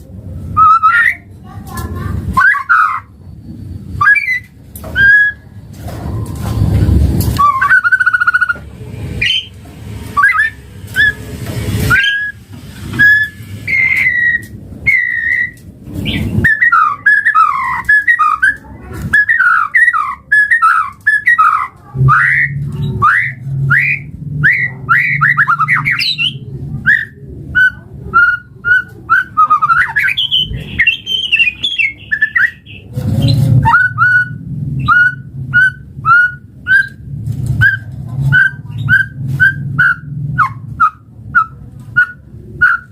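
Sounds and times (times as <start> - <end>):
bird singing whistled phrases: 0.6 - 1.2, 2.4 - 3.1, 4.0 - 5.4, 7.4 - 8.6, 9.2 - 9.5, 10.2 - 11.2, 11.9 - 12.4, 13.0 - 32.9, 33.6 - 37.0, 37.6 - 42.9.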